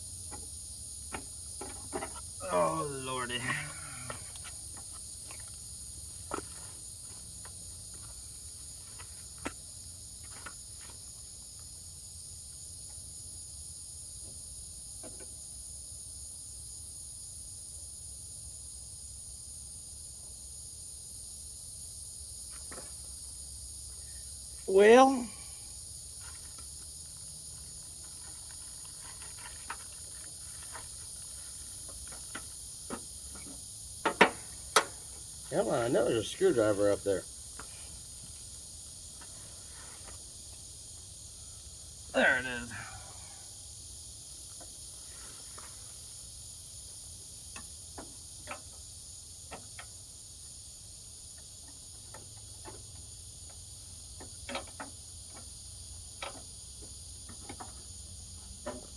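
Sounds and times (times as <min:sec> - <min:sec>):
insects chirring: 0:00.0 - 0:58.9
steady high hiss: 0:00.0 - 0:58.9.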